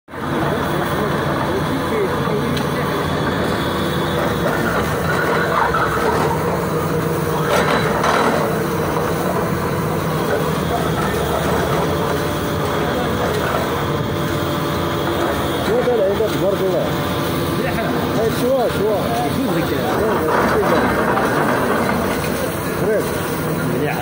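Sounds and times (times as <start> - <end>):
drilling rig engine running: 0.1 - 24.0.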